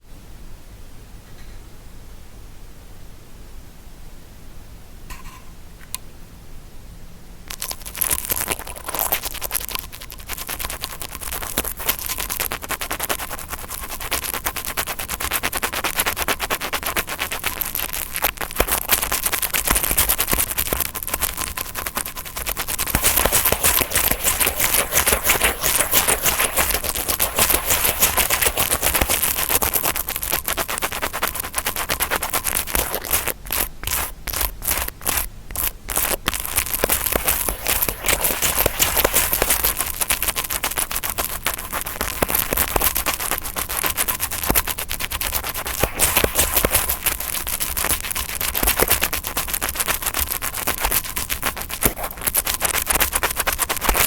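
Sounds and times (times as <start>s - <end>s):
brush scratching rapidly: 7.5s - 54.0s.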